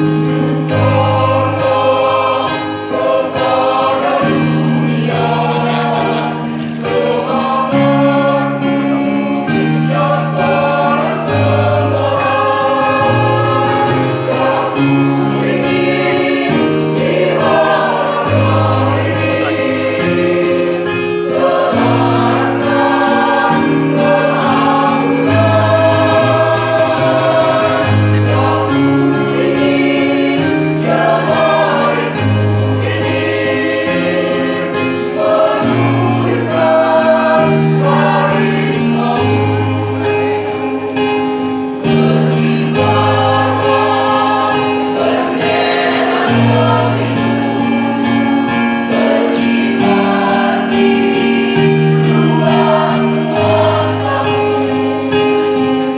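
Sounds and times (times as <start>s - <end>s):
mixed choir singing: 0.0s - 55.9s.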